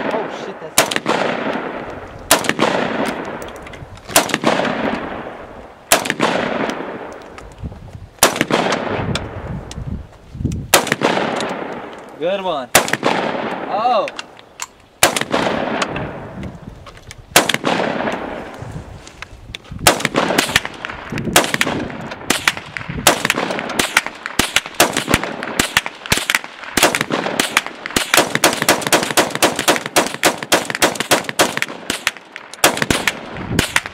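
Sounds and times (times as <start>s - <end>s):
rifle shots with echo: 0.0s - 3.5s, 4.1s - 7.2s, 8.2s - 9.4s, 10.7s - 14.3s, 15.0s - 16.4s, 17.3s - 18.5s, 19.8s - 33.9s.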